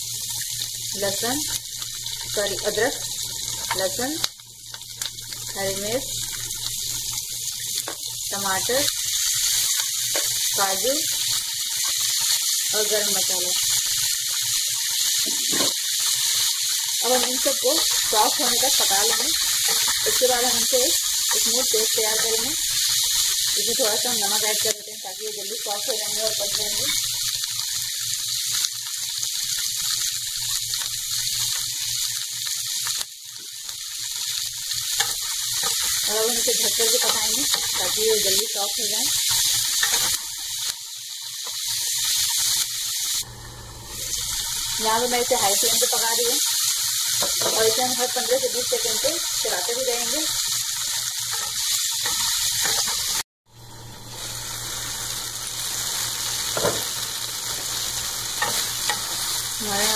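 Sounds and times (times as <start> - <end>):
vegetables frying in hot oil: 0.0 - 59.9.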